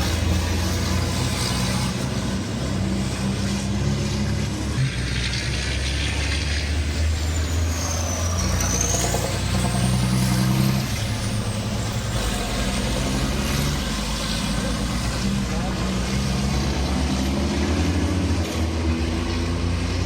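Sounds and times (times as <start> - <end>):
diesel truck engines running: 0.0 - 20.0.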